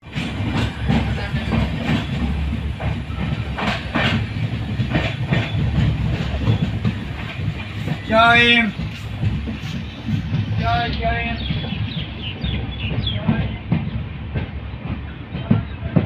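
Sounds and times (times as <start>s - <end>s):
train wheels rumbling: 0.0s - 16.0s
wheels clacking over rail joints: 0.0s - 16.0s.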